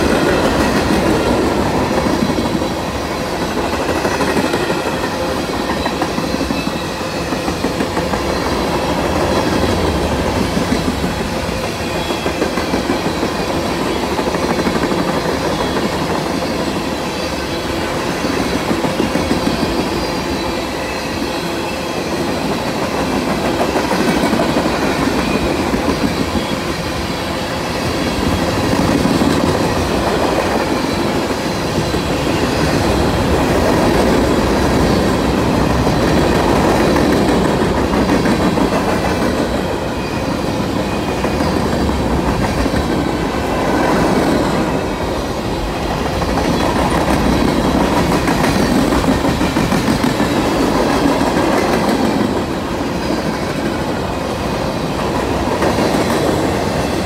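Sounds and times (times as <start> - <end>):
train rumble and rattle: 0.0 - 57.0.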